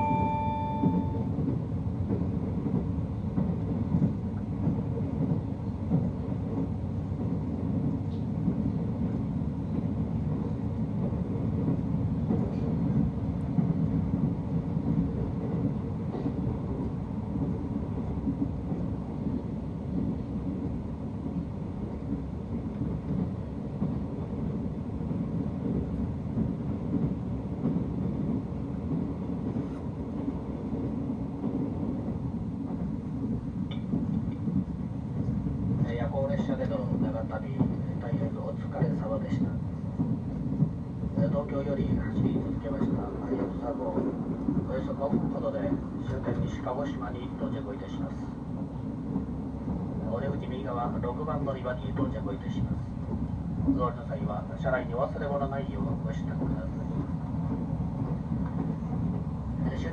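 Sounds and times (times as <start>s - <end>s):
train running rumble: 0.0s - 59.9s.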